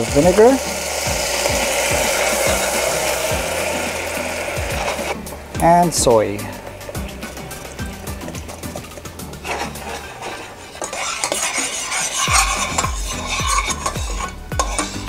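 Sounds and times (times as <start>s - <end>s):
sauce sizzling: 0.0s - 15.0s
utensil scraping a saucepan: 0.0s - 15.0s.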